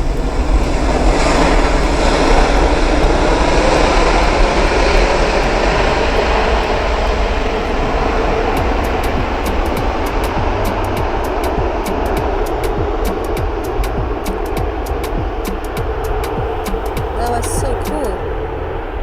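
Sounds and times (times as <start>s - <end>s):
loud jet engine noise: 0.0s - 18.6s.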